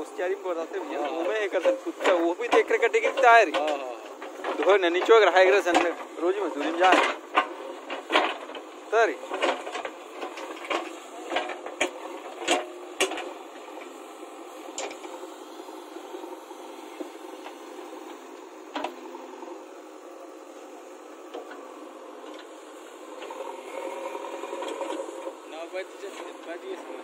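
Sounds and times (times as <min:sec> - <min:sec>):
diesel engine and hydraulics running: 0:00.0 - 0:27.0.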